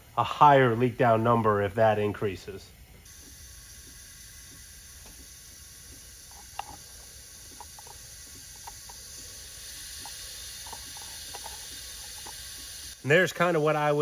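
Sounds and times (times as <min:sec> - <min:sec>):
compressed air hissing: 0:02.2 - 0:14.0.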